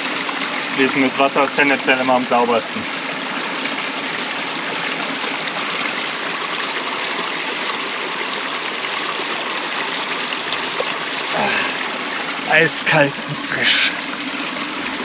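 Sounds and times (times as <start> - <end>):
brook water rushing: 0.0 - 15.0.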